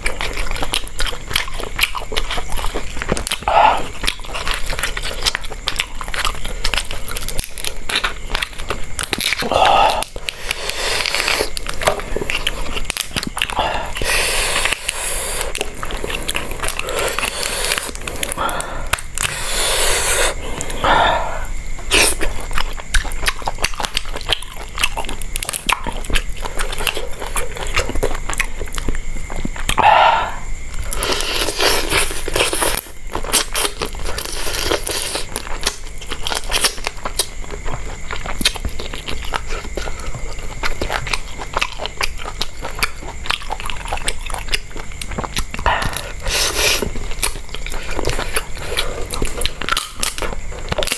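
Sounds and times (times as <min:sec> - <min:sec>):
person eating and chewing: 0:00.0 - 0:50.9.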